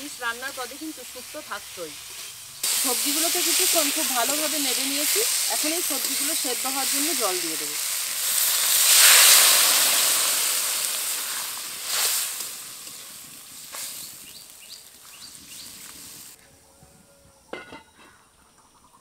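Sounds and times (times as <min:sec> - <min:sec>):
water hissing in hot oil: 0:00.0 - 0:16.4.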